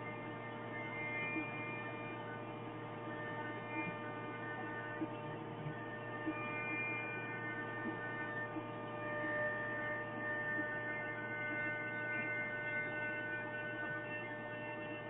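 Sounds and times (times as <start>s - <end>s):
router electric hum with high tones: 0.0s - 15.0s.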